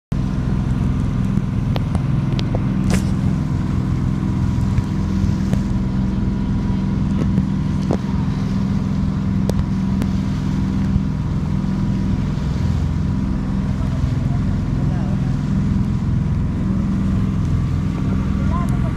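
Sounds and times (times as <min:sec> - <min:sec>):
boat engine droning: 0:00.1 - 0:18.9.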